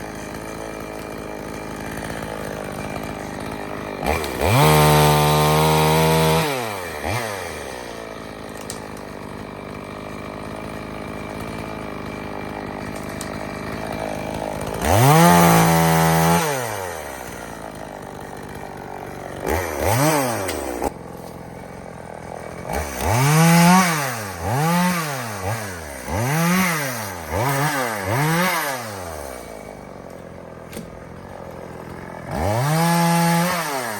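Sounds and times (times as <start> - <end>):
chainsaw idling and revving: 0.0 - 33.9.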